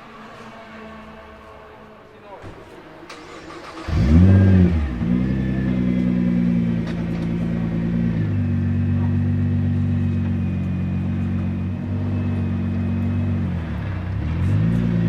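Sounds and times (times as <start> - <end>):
car engine idling: 2.5 - 15.0.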